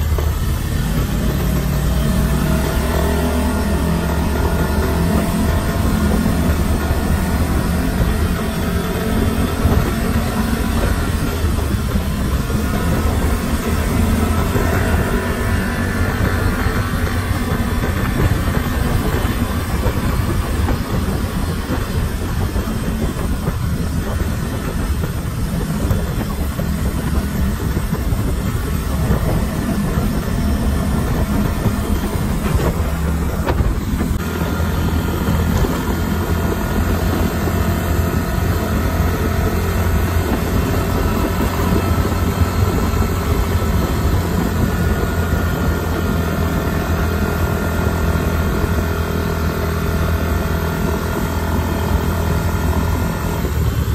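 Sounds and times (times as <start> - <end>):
road rumble: 0.0 - 53.9
scooter engine drone: 0.0 - 53.9
wind: 0.0 - 53.9.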